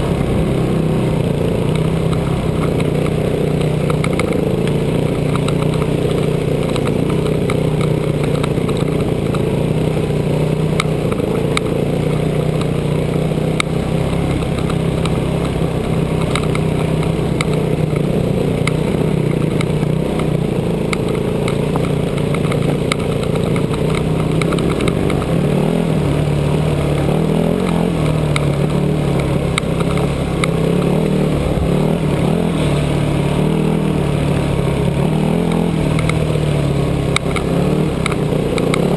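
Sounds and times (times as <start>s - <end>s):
dirt bike engine running: 0.0s - 38.9s
sharp clicks: 1.6s - 9.5s, 10.7s - 11.7s, 13.5s - 38.9s.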